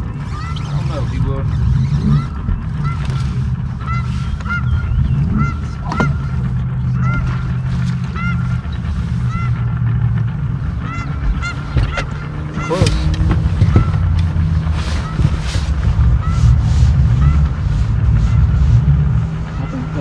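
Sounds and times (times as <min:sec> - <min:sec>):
geese honking: 0:00.0 - 0:20.0
steady low hum: 0:00.0 - 0:20.0.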